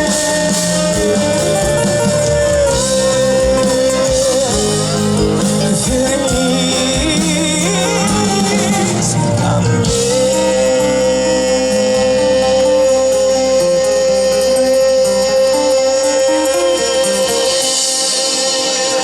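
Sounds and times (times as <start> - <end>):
acoustic rock band instrumental: 0.0 - 19.0.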